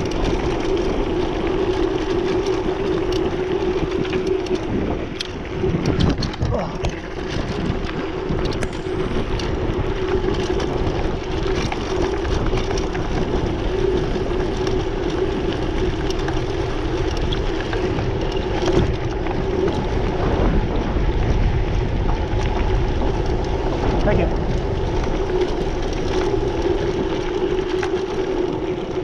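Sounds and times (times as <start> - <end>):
bike and gravel rattles: 0.0 - 29.0
wind rushing over microphone: 0.0 - 29.0.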